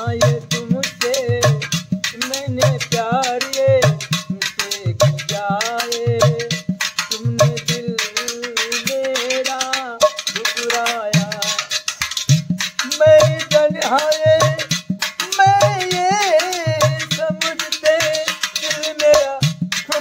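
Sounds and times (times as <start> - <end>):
man singing: 0.0 - 12.2, 12.8 - 20.0
metal pot hand drum: 0.0 - 20.0.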